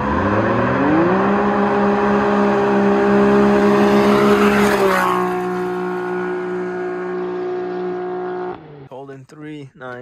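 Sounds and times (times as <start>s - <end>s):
engines at full throttle passing: 0.0s - 8.9s.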